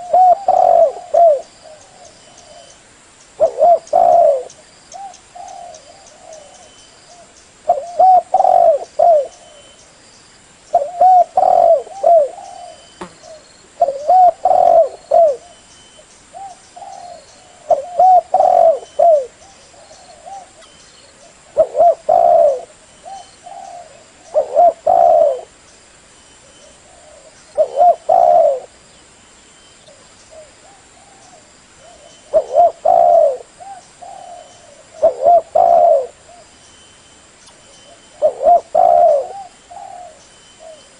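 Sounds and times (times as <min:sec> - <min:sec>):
dove cooing: 0:00.0 - 0:02.7, 0:03.4 - 0:09.6, 0:10.7 - 0:15.6, 0:16.3 - 0:25.6, 0:26.6 - 0:28.8, 0:29.9 - 0:36.5, 0:37.9 - 0:40.9.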